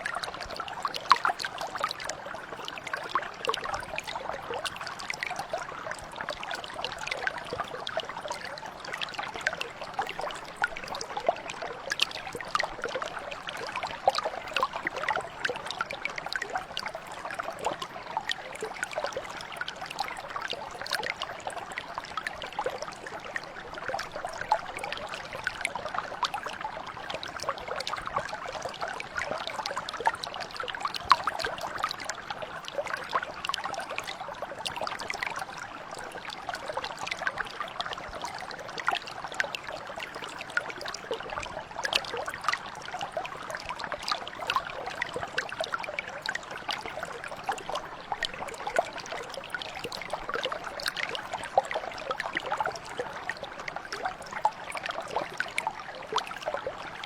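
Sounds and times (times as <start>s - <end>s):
brook flowing: 0.0s - 57.0s.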